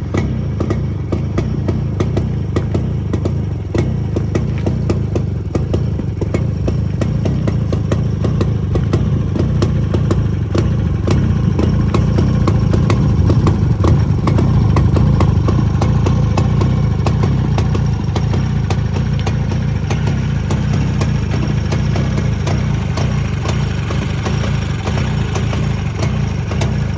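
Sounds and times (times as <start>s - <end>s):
two-stroke motorcycle engine idling: 0.0s - 26.9s.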